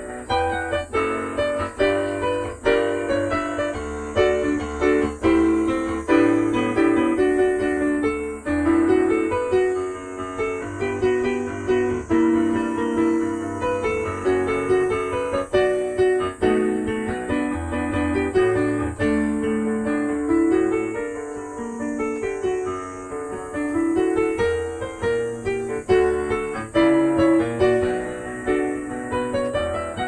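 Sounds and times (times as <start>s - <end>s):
cicadas droning: 0.0s - 30.0s
solo piano pop arrangement: 0.0s - 30.0s.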